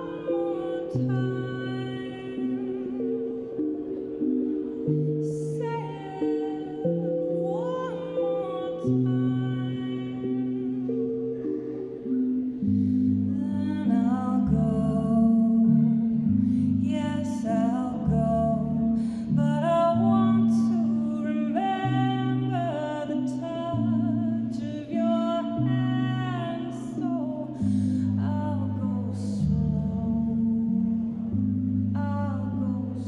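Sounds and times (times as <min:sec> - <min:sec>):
woman singing into a microphone: 0:00.0 - 0:03.1, 0:04.8 - 0:10.9, 0:13.2 - 0:31.0, 0:31.9 - 0:33.0
electronic keyboard chords: 0:00.0 - 0:33.0.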